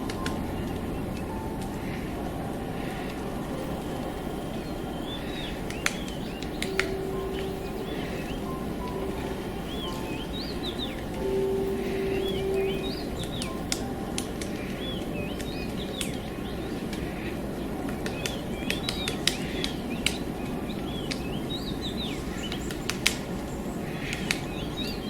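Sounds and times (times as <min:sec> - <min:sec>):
birds chirping: 0:00.0 - 0:25.0
low background noise: 0:00.0 - 0:25.0.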